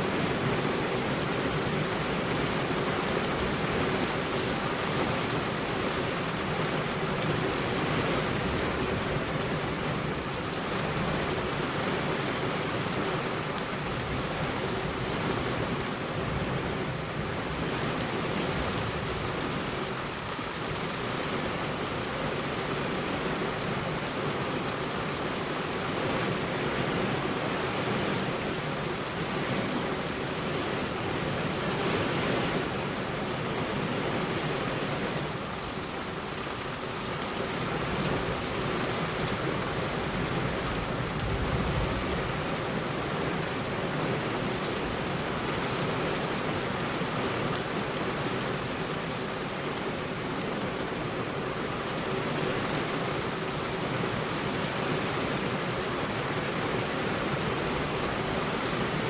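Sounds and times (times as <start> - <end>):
heavy rain on a road: 0.0 - 59.0.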